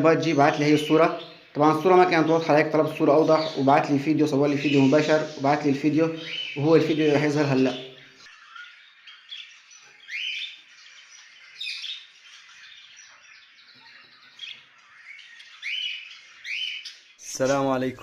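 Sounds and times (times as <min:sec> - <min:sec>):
budgerigars rising calls: 0:00.0 - 0:17.6
budgerigars soft chatter: 0:00.0 - 0:18.0.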